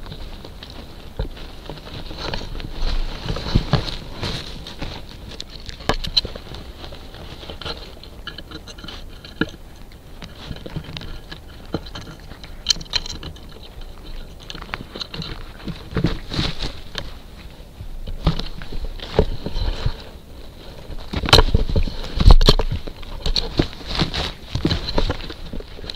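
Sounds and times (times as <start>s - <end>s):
claws scraping camera housing: 0.0s - 25.9s.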